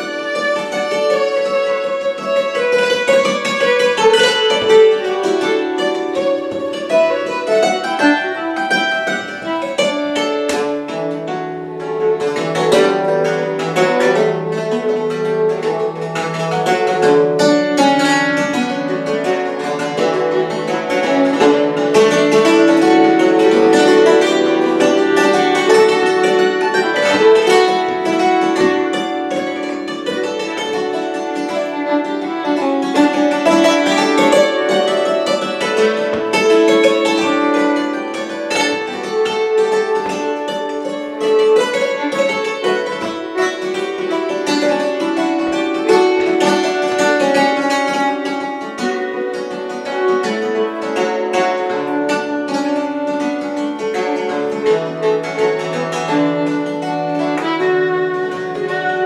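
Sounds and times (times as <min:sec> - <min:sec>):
fiddle playing: 0:00.0 - 0:59.0
hammered dulcimer: 0:00.0 - 0:59.0.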